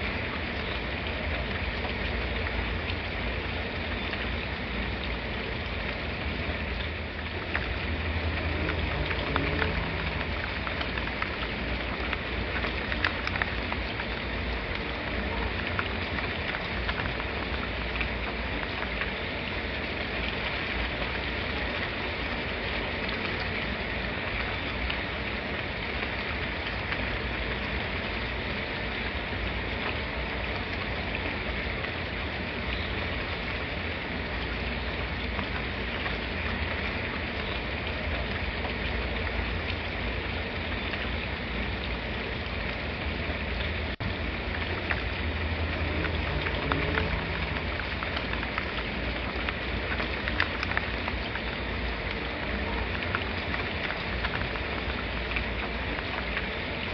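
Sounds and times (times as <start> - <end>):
raindrops ticking: 0.0 - 56.9
steady rain hiss: 0.0 - 56.9.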